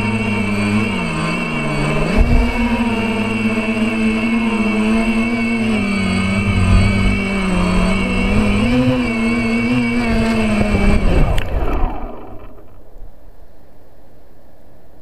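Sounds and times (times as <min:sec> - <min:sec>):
drone motors humming: 0:00.0 - 0:14.0.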